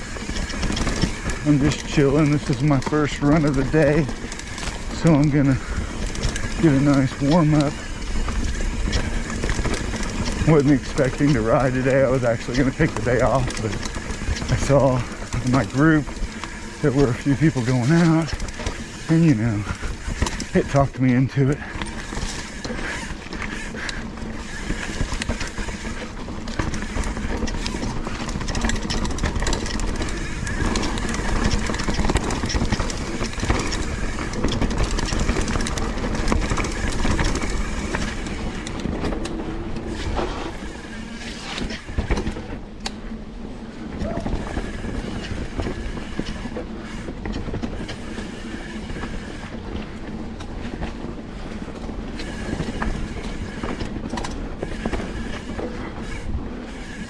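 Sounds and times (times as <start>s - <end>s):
mountain bike rattling: 0.0s - 57.0s
tyres over dirt and rocks: 0.0s - 57.0s.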